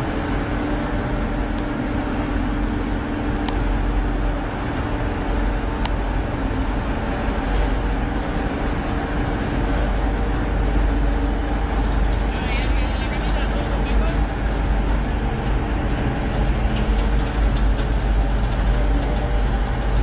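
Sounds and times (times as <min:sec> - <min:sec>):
ship engines droning: 0:00.0 - 0:20.0.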